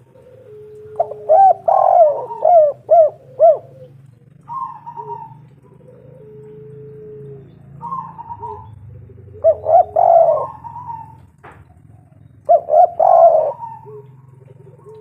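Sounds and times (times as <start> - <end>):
dove cooing: 0.0 - 15.0
steady low hum: 0.0 - 15.0.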